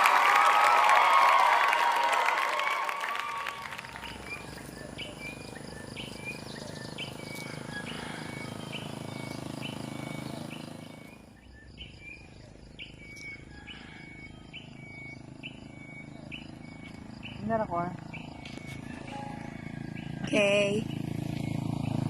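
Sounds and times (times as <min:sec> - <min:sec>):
bird chirping: 0:03.7 - 0:22.0.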